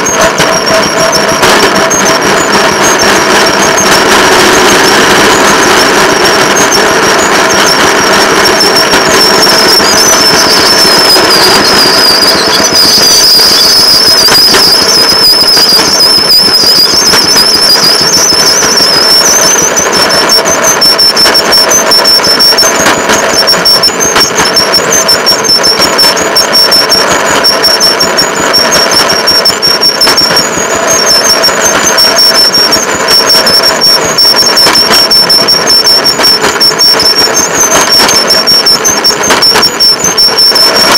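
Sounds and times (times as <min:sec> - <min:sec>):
thin high whine: 0:00.0 - 0:40.9.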